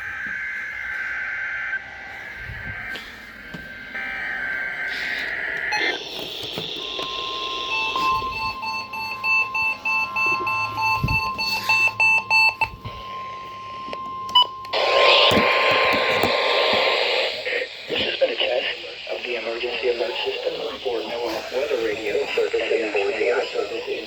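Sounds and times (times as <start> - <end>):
warbling digital data bursts: 0.0 - 12.2, 14.7 - 24.0
rapid electronic beeping: 0.0 - 24.0
steady high alert tone: 0.0 - 24.0.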